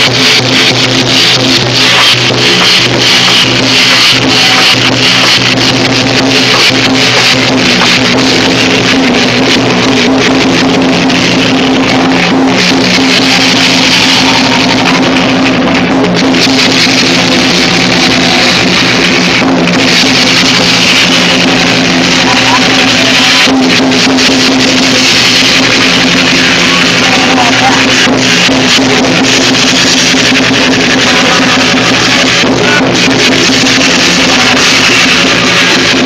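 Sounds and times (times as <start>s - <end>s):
music with guitar and drums: 0.0s - 36.0s
sustained low tones: 0.0s - 36.0s.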